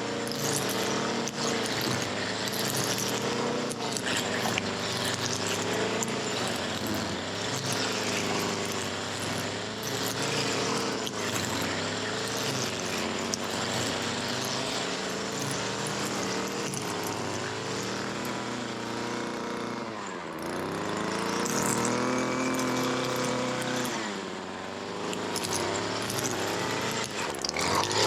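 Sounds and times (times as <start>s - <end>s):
small gas engine running: 0.0s - 28.0s.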